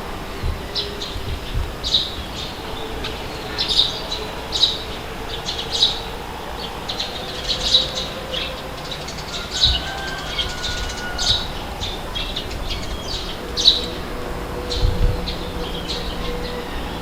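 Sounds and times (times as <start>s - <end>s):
birds chirping and squawking: 0.0s - 17.0s
wind rushing: 0.0s - 17.0s.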